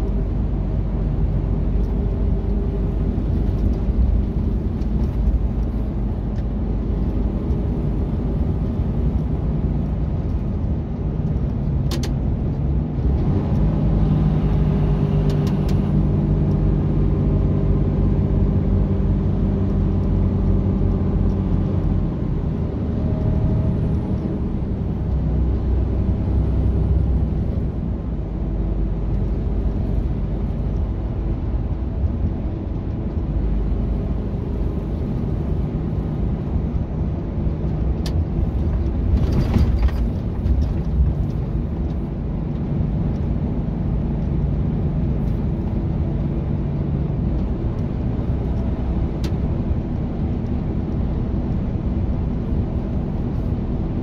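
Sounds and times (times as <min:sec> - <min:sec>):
truck engine and tyres drone: 0:00.0 - 0:54.0.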